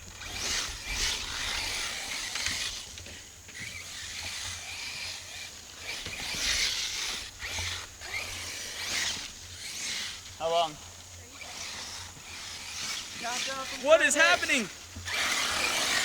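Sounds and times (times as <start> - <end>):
electric toy truck motor and tyres: 0.0 - 16.0.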